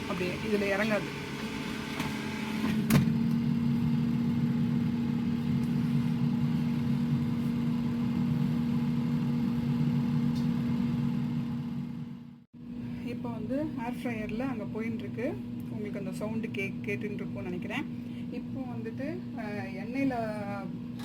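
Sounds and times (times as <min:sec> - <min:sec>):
air fryer fan whirring: 0:00.0 - 0:21.0.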